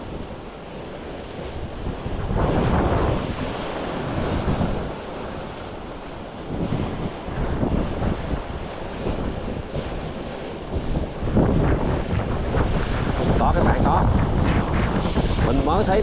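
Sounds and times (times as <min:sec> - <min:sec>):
surf washing on shore: 0:00.0 - 0:16.0
wind buffeting microphone: 0:00.0 - 0:16.0.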